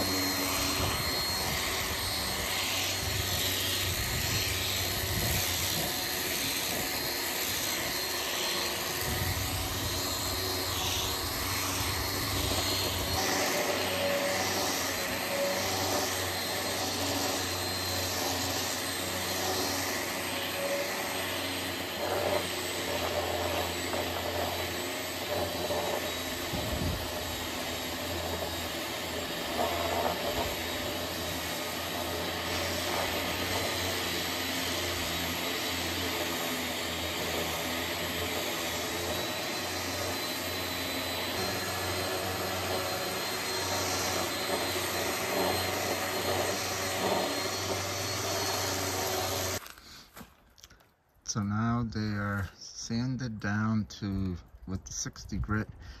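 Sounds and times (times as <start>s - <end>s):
orbital sander sanding wood: 0.0s - 49.8s
shop vacuum running: 0.0s - 50.3s.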